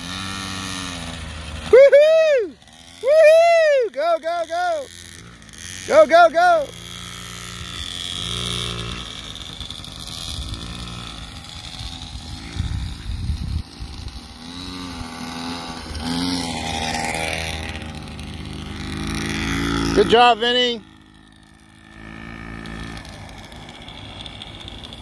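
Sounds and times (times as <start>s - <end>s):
two-stroke dirt bike engine revving: 0.0s - 25.0s.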